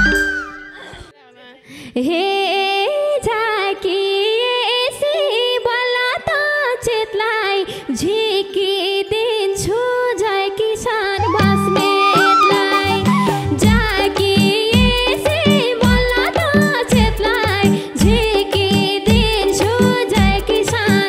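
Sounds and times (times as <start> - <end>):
woman singing folk melody: 1.1 - 21.0.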